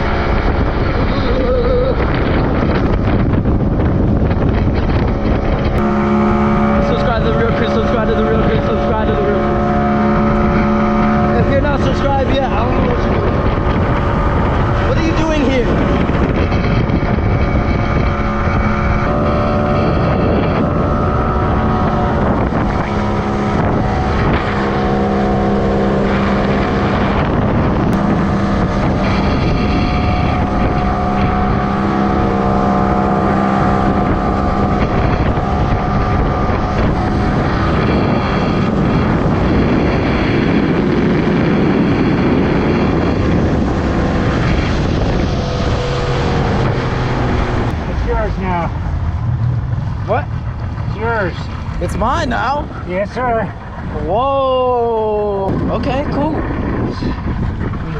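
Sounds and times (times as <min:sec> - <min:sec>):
motorboat engine running: 0:00.0 - 0:57.9
wind on microphone: 0:00.0 - 0:57.9.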